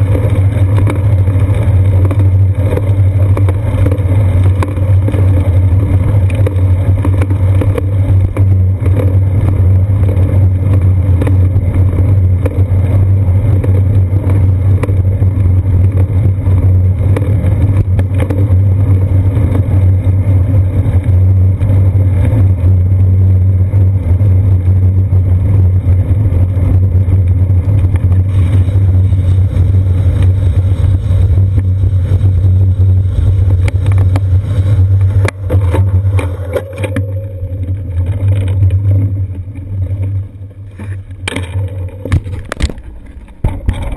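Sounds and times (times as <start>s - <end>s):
wind and road rumble: 0.0s - 43.9s.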